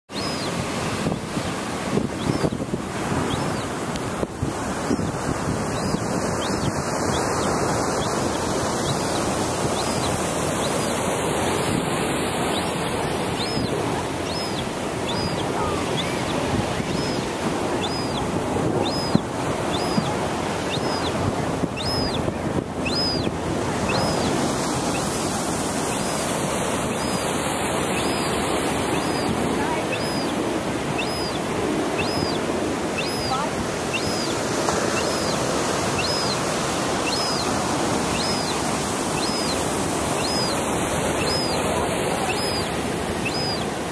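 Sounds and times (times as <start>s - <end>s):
gull chick peeping: 0.1s - 43.9s
surf rushing: 0.1s - 43.9s
wind on microphone: 0.1s - 43.9s.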